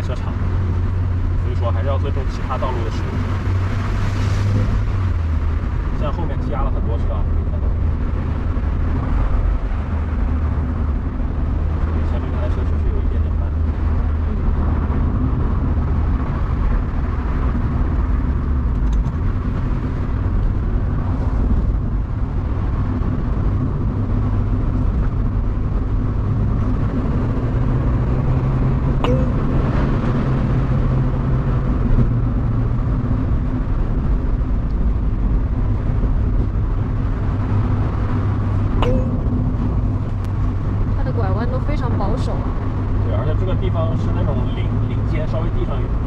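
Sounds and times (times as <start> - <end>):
car engine cruising: 0.0 - 46.0
road noise: 0.0 - 46.0.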